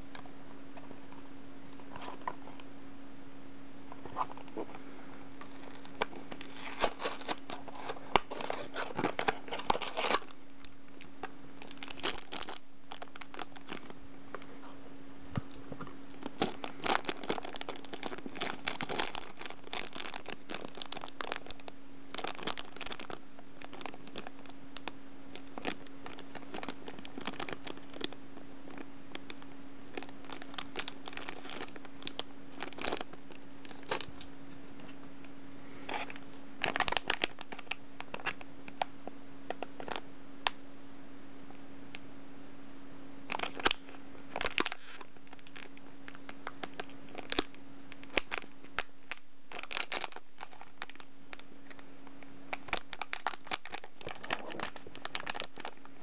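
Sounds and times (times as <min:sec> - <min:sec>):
faint steady hum: 0:00.0 - 0:56.0
plastic wrapper crinkling: 0:03.9 - 0:14.6, 0:15.4 - 0:35.0, 0:35.8 - 0:38.9, 0:39.5 - 0:40.6, 0:43.2 - 0:56.0.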